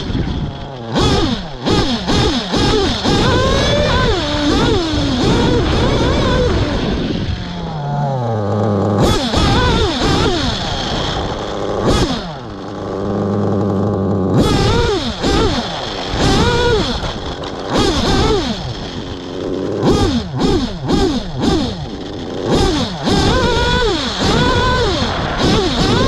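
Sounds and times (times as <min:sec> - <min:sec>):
nitro rc engine revving: 0:00.0 - 0:26.0.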